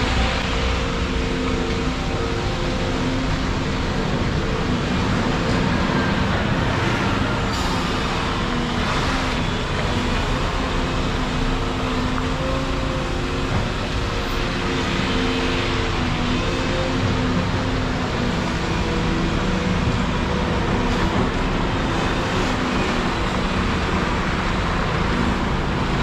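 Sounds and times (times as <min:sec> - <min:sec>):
bus passing: 0:00.0 - 0:26.0
excavator diesel engine running: 0:00.0 - 0:26.0
road traffic passing: 0:00.0 - 0:26.0.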